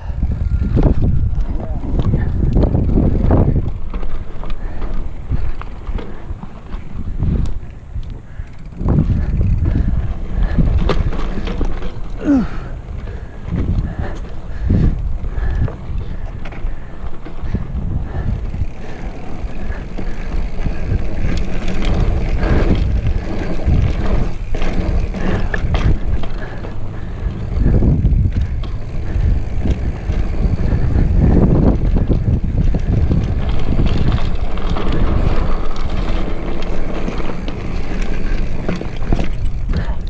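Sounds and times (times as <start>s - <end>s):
bike rattling on dirt trail: 0.0s - 40.0s
wind buffeting microphone: 0.0s - 40.0s.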